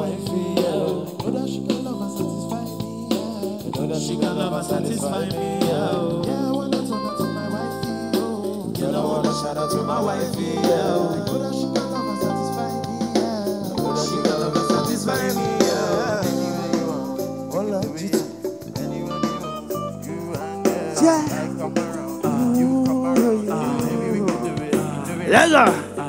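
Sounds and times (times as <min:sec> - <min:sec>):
live band playing upbeat groove: 0:00.0 - 0:26.0
person singing: 0:00.0 - 0:26.0.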